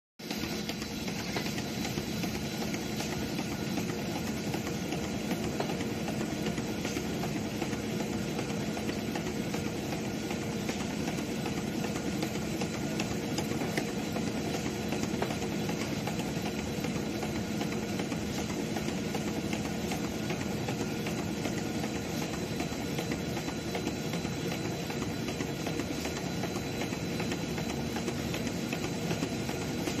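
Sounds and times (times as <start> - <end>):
low machine hum: 0.2 - 30.0
machine rattling at speed: 0.2 - 30.0.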